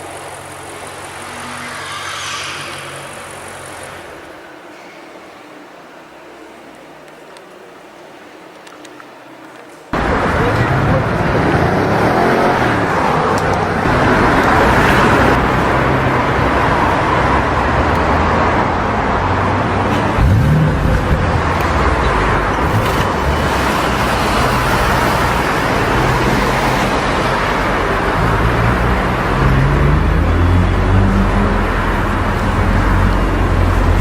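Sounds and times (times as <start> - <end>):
road noise: 0.0 - 34.0.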